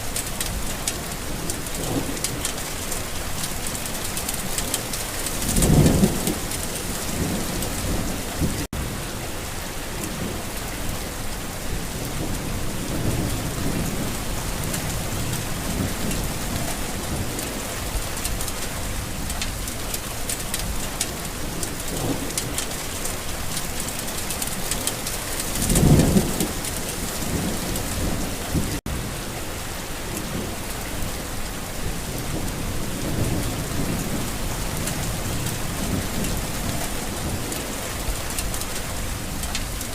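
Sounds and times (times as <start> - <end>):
steady rain falling: 0.0 - 39.9
rolling thunder rumbles: 0.2 - 9.0, 11.1 - 29.2, 30.1 - 39.9.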